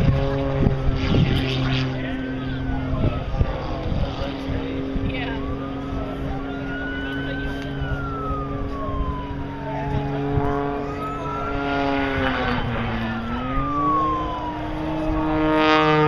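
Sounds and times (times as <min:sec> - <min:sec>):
aircraft engines flying past: 0:00.0 - 0:16.0.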